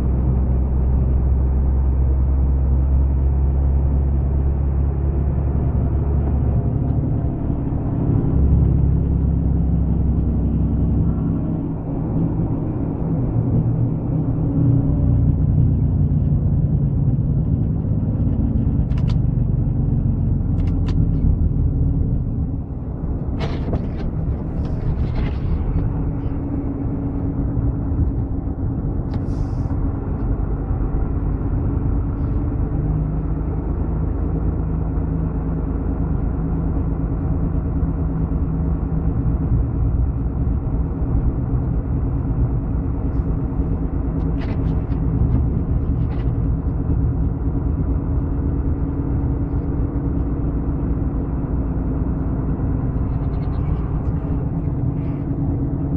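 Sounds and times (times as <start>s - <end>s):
road vehicle rumble: 0.0s - 55.9s.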